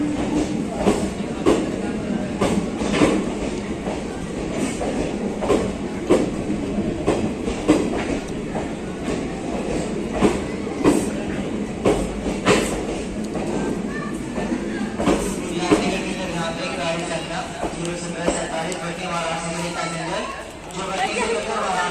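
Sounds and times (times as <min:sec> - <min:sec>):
train coaches rumbling past: 0:00.0 - 0:21.9.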